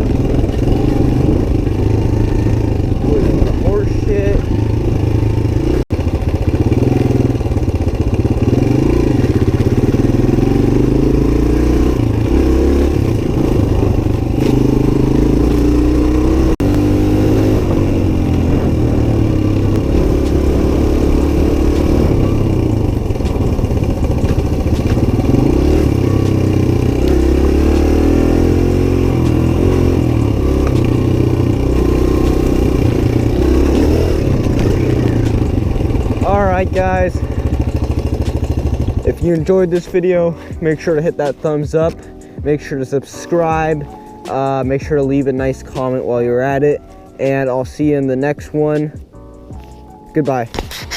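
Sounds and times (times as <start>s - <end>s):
motorcycle engine revving: 0.0s - 47.4s.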